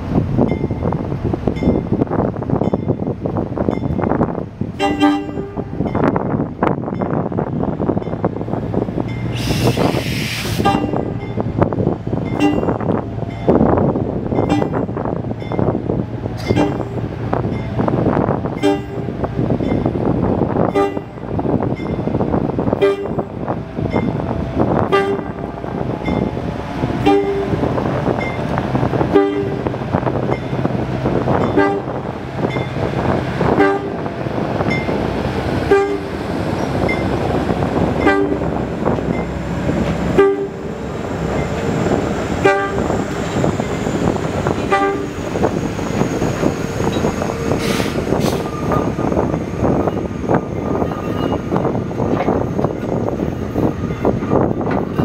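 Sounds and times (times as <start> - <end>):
low locomotive engine hum: 0.0 - 55.0.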